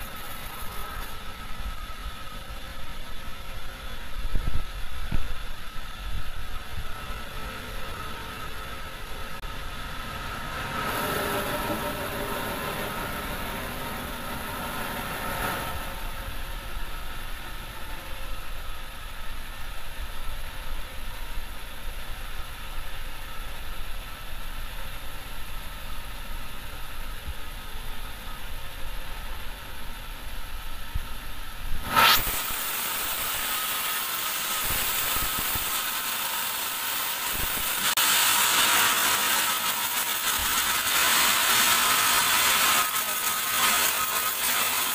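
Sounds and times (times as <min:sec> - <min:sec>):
bandsaw running with whine: 0:00.0 - 0:44.9.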